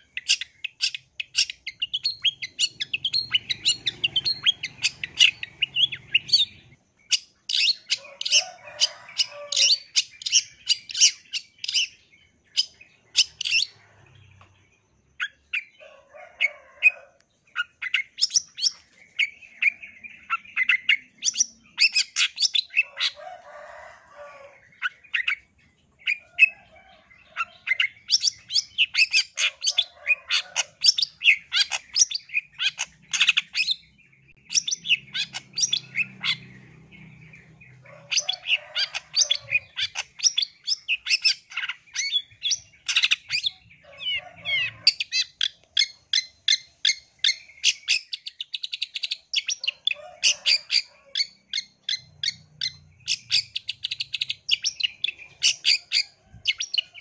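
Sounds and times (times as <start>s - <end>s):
shrike singing chattering song: 0.0s - 14.5s, 17.4s - 57.0s.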